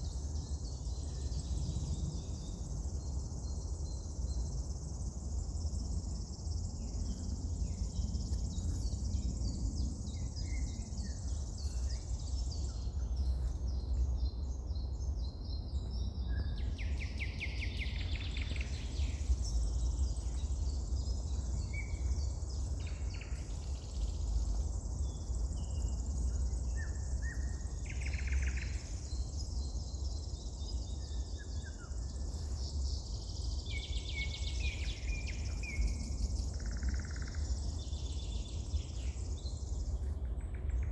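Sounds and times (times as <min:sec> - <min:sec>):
low constant rumble: 0:00.0 - 0:40.9
songbirds singing and calling: 0:00.0 - 0:40.9.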